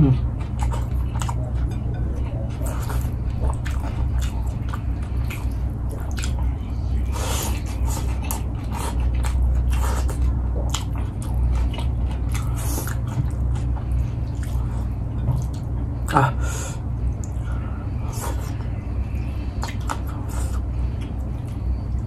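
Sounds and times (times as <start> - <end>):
man chewing: 0.0 - 22.0
steady low hum: 0.0 - 22.0.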